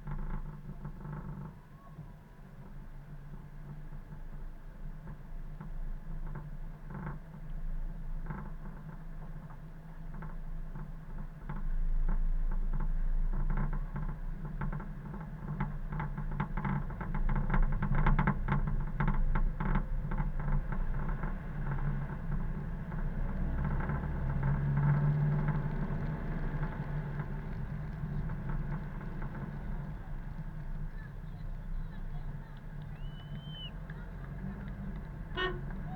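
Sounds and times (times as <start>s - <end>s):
car engine and tyre noise: 0.0s - 35.9s.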